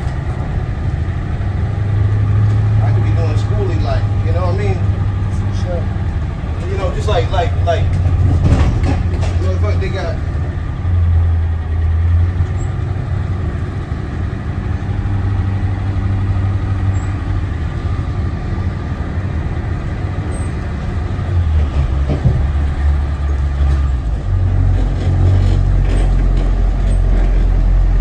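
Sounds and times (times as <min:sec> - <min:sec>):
bus engine droning: 0:00.0 - 0:28.0.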